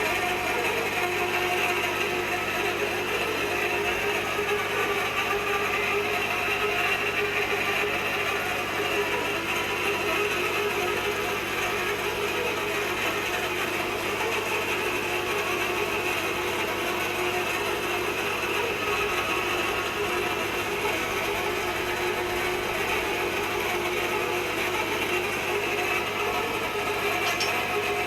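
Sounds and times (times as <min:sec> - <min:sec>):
pipe cutting machine noise: 0:00.0 - 0:28.0.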